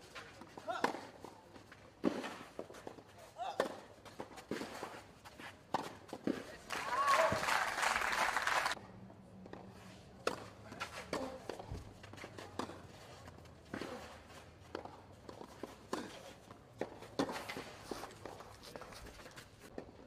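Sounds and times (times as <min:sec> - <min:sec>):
footsteps on clay court: 0:00.0 - 0:07.5, 0:08.7 - 0:20.0.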